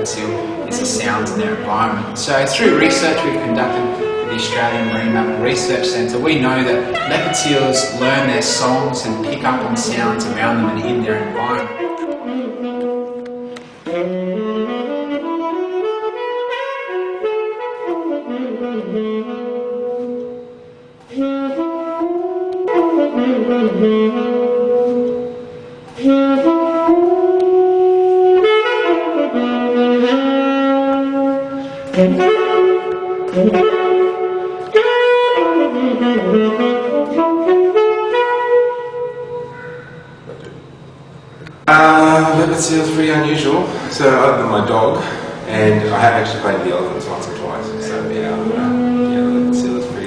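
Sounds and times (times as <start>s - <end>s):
solo saxophone melody: 0.0s - 50.0s.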